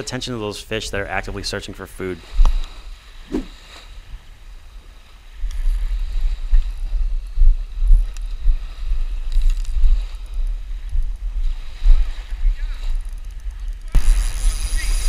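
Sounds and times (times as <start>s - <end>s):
wind buffeting microphone: 2.2s - 15.0s.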